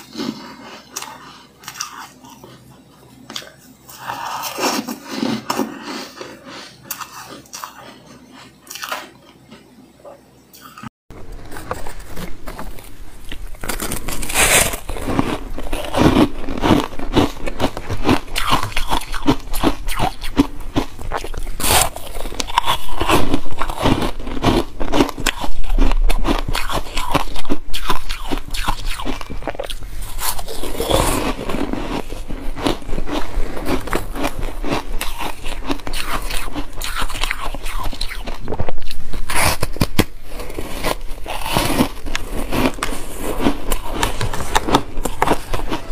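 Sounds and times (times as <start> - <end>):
ice crunching between teeth: 0.0 - 2.7, 3.3 - 9.4, 11.6 - 45.9.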